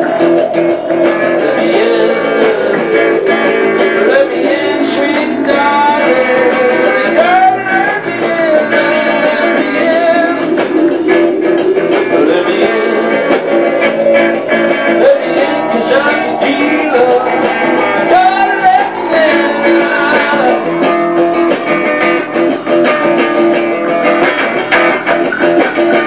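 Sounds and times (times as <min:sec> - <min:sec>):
bass guitar: 0:00.0 - 0:26.0
drum machine: 0:00.0 - 0:26.0
electric guitar: 0:00.0 - 0:26.0.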